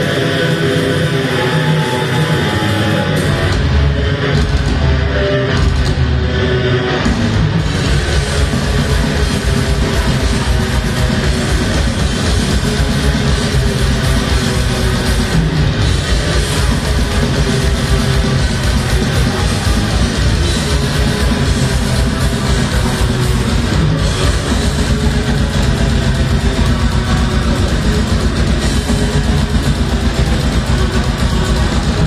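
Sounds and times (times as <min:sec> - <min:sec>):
metal band playing live: 0:00.0 - 0:32.0.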